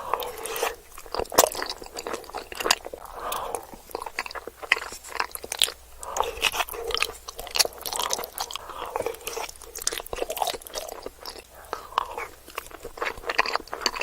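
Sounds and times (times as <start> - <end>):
crunchy bites and chewing: 0.0 - 14.0
wet mouth sounds: 0.0 - 14.0.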